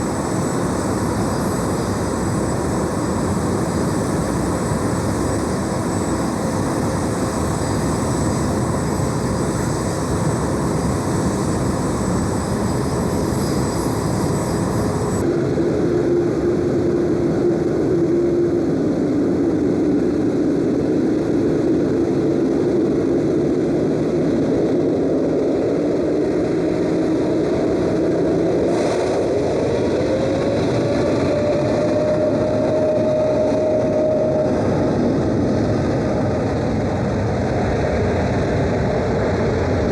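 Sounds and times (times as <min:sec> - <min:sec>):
jet aircraft engines running: 0:00.0 - 0:39.9.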